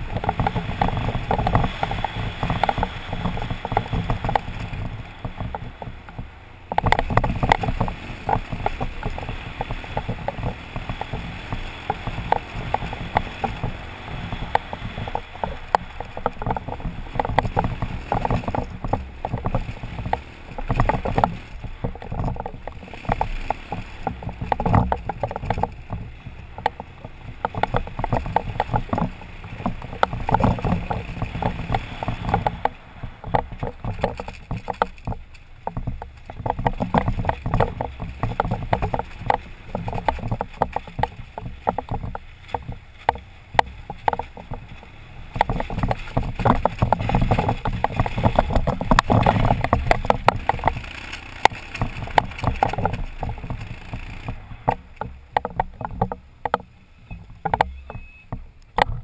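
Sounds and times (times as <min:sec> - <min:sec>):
knocks and rattles over stones: 0:00.0 - 0:59.0
motorcycle engine running: 0:00.0 - 0:59.0.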